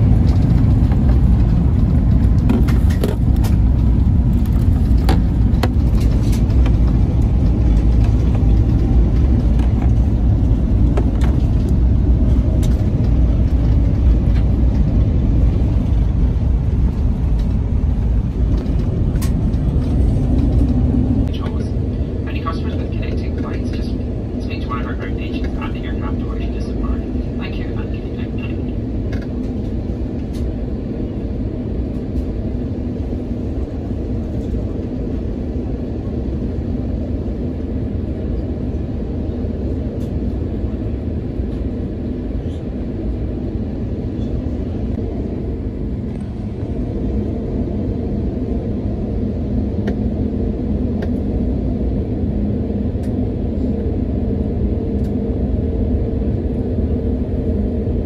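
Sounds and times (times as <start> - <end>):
airliner cabin rumble and hum: 0.0 - 58.0.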